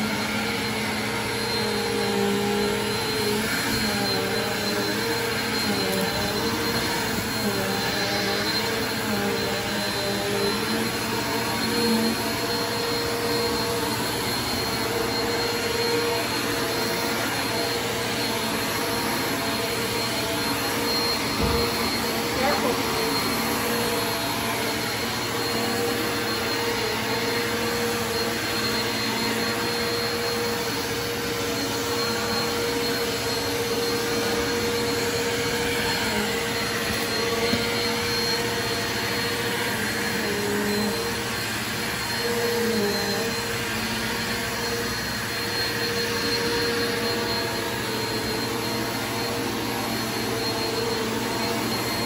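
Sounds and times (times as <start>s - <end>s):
vacuum cleaner running: 0.0s - 52.0s.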